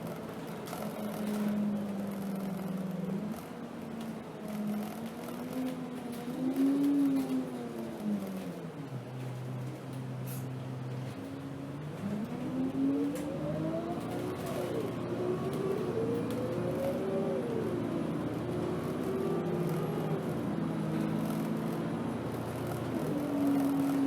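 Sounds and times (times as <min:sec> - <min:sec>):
bus engine pulling away: 0:00.0 - 0:24.0.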